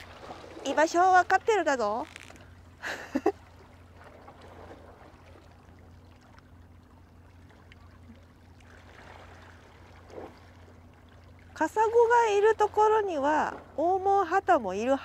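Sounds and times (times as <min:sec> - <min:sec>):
water lapping against rocks: 0:00.0 - 0:02.6, 0:03.2 - 0:14.0
low steady hum: 0:00.0 - 0:15.0.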